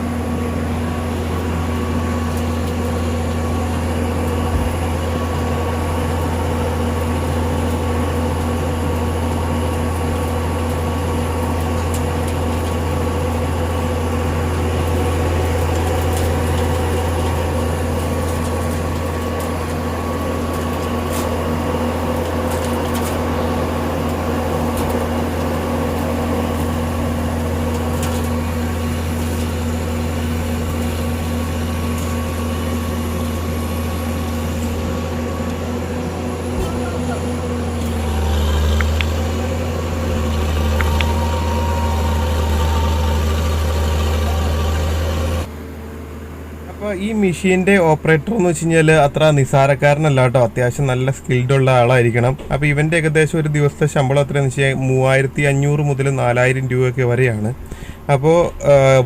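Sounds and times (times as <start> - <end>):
diesel engine of heavy machinery: 0.0 - 54.7, 57.5 - 59.0.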